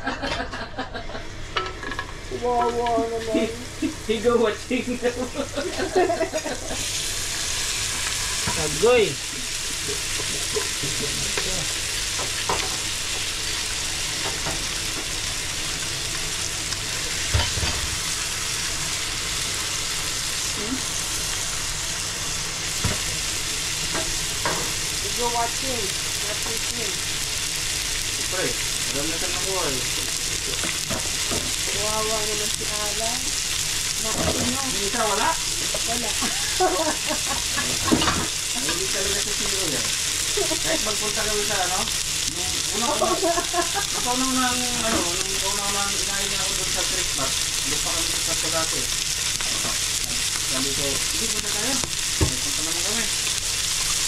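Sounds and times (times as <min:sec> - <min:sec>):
fish sizzling in butter: 0:00.8 - 0:54.0.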